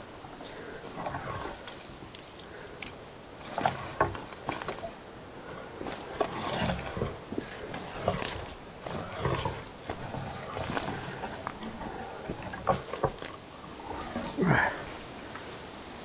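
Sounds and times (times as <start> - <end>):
brushing against branches: 0.0 - 16.0.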